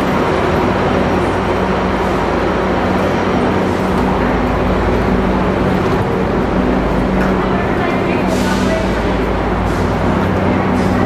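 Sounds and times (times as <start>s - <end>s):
crowd walking: 0.0s - 11.0s
rolling suitcases: 0.0s - 11.0s
steady low hum: 0.0s - 11.0s.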